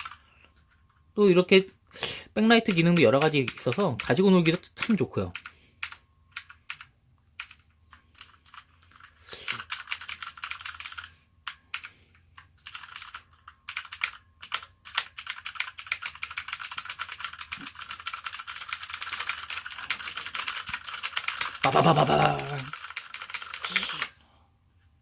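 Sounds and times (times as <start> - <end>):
clicky keyboard typing: 2.6 - 24.1.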